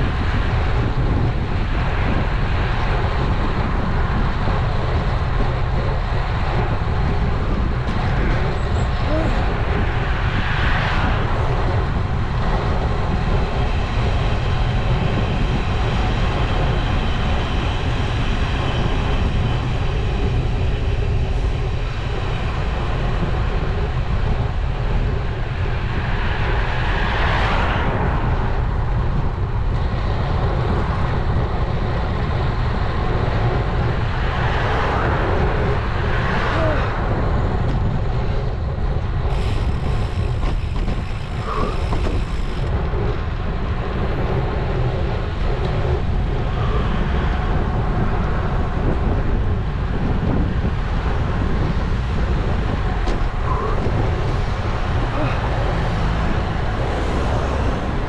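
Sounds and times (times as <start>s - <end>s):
passing traffic: 0.0s - 58.0s
wind rumbling on microphone: 0.0s - 58.0s.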